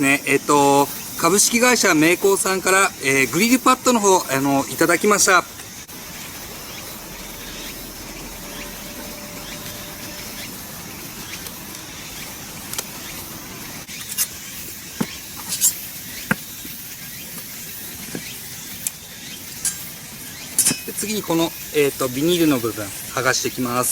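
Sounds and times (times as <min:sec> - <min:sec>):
steady background hiss: 0:00.0 - 0:23.9.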